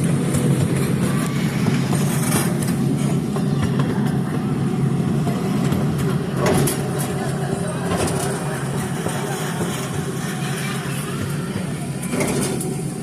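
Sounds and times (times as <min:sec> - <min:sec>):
vehicle rumble in motion: 0:00.0 - 0:13.0.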